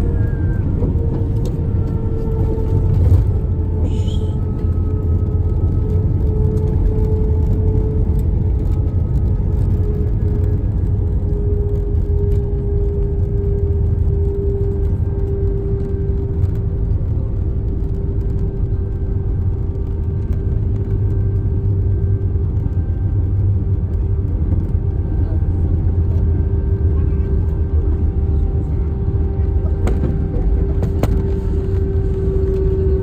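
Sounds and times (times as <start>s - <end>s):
wheels and engines rumbling: 0.0s - 33.0s.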